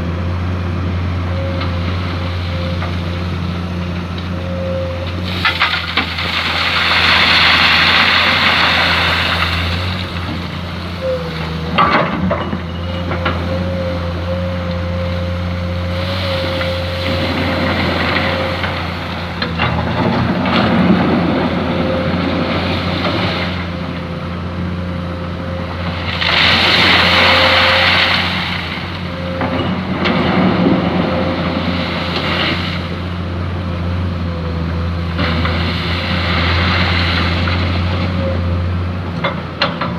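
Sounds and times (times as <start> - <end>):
excavator digging sand: 0.0 - 39.9
hydraulic whine: 0.0 - 39.9.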